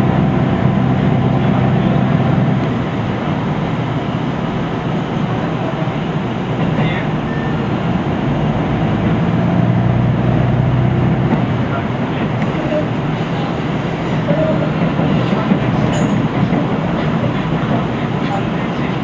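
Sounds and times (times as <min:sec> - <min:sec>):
diesel engine drone: 0:00.0 - 0:19.0
rumble of train wheels: 0:00.0 - 0:19.0.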